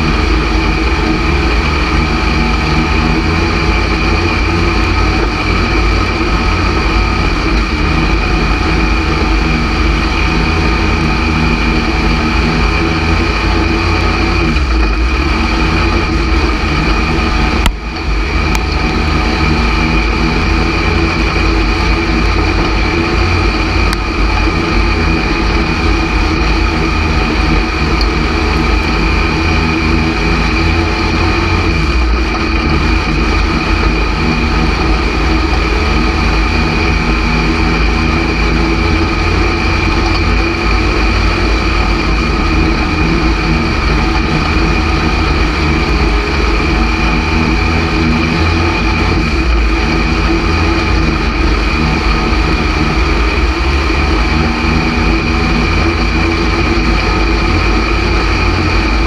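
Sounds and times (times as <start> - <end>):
race car engine rumble: 0.0 - 59.0.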